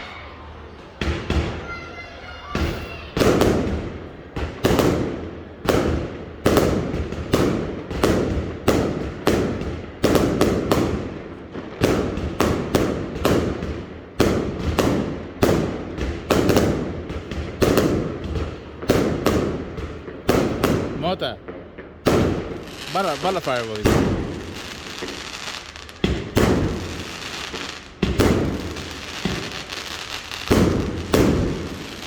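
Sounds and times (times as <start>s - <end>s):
fireworks exploding: 0.0s - 32.0s.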